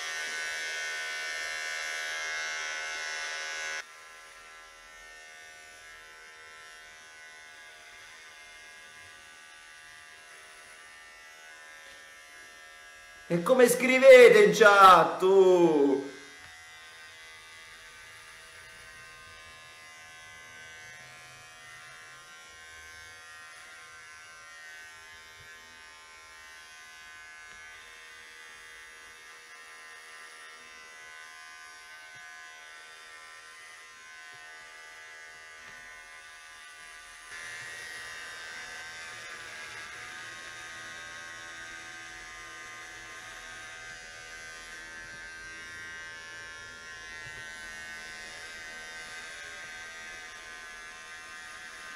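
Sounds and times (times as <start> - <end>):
electric hair clippers running: 0.0 - 13.3, 16.3 - 51.9.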